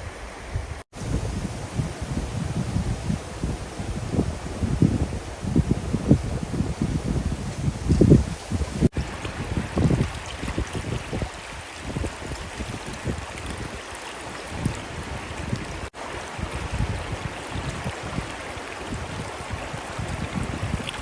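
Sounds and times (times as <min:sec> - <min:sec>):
river water flowing: 0:00.0 - 0:21.0
wind buffeting microphone: 0:00.0 - 0:21.0.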